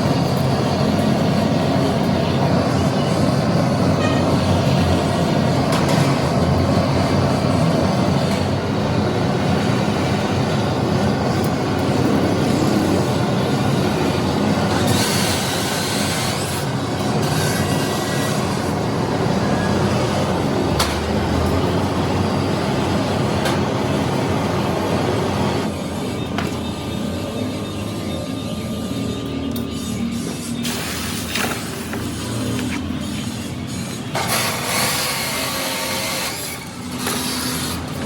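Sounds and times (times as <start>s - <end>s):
loud mechanical rumble with hiss: 0.0s - 38.0s.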